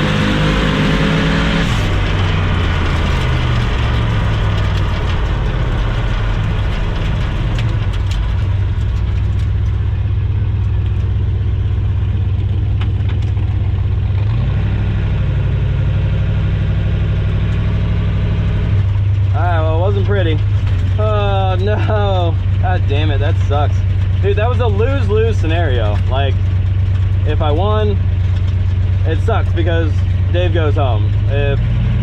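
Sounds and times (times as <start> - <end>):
engine rumbling at low revs: 0.0 - 32.0.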